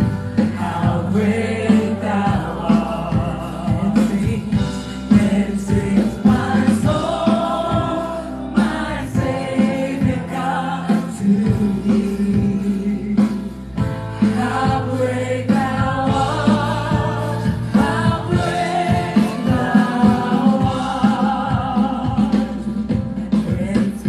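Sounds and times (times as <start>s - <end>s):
choir singing a hymn: 0.0s - 24.0s
held accompaniment: 0.0s - 24.0s.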